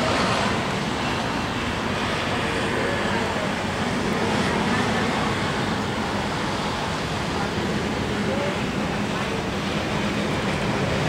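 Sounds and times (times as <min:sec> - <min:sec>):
train coaches rumbling on rails: 0:00.0 - 0:11.0.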